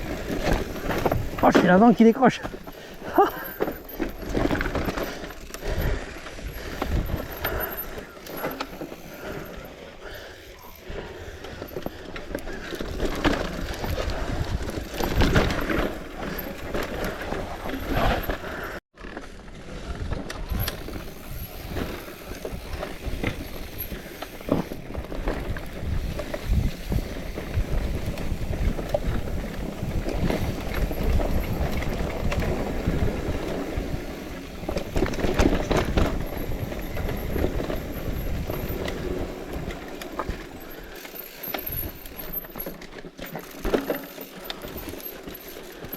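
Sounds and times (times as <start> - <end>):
bike rattling and knocking: 0.0 - 19.2, 20.0 - 45.9
tyre and wind noise: 0.0 - 45.9.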